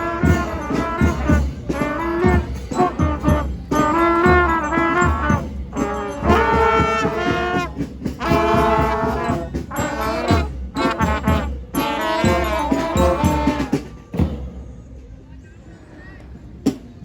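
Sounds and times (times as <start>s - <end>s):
brass instruments playing: 0.0s - 14.5s
steady drumbeat: 0.0s - 14.8s.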